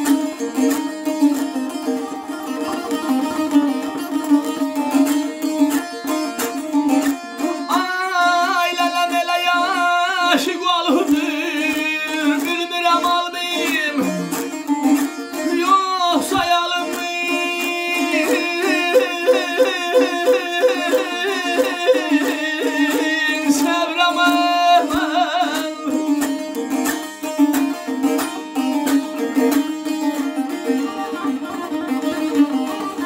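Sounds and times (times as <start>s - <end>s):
plucked lute melody: 0.0s - 33.0s
rapid lute strumming: 0.0s - 33.0s.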